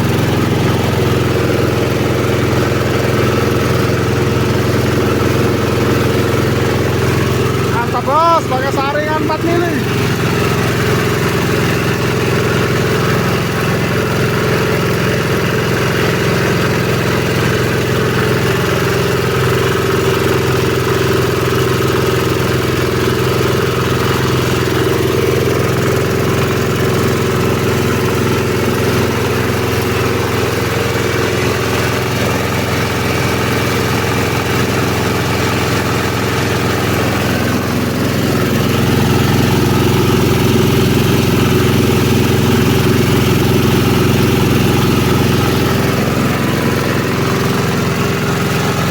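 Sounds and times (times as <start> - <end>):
engine-driven grinder running: 0.0 - 48.9.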